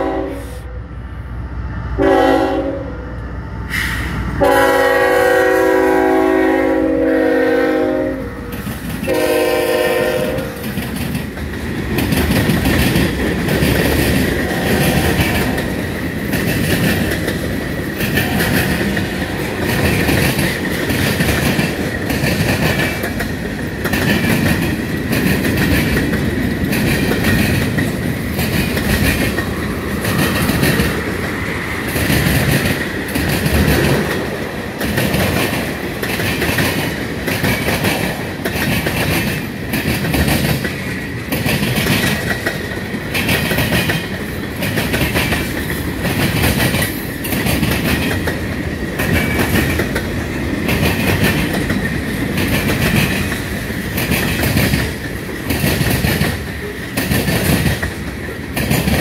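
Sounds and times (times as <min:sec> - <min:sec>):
freight wheels clicking over rail joints: 0:10.5 - 0:59.0.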